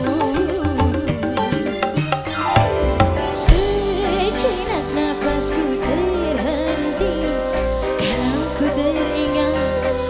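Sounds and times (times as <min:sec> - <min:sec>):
woman singing: 0:00.0 - 0:02.5, 0:03.2 - 0:10.0
live band music: 0:00.0 - 0:10.0.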